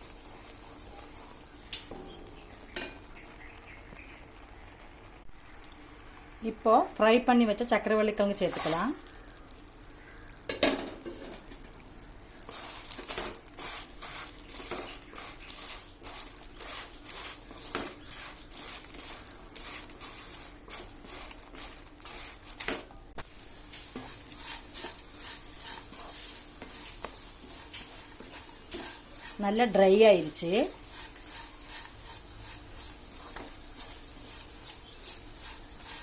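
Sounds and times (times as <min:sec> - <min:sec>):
spatula scraping in pan: 0:00.0 - 0:03.1, 0:08.2 - 0:09.0, 0:11.0 - 0:36.0
sizzling hiss: 0:00.0 - 0:36.0.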